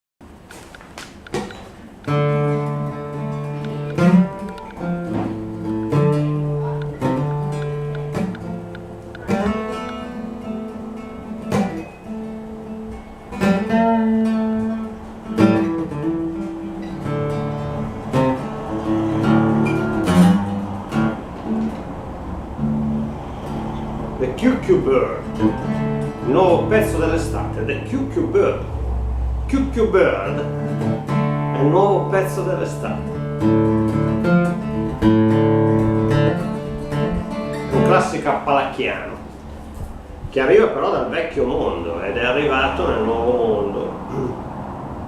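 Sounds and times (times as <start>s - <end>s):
plucked string instrument folk tune: 2.0s - 40.3s.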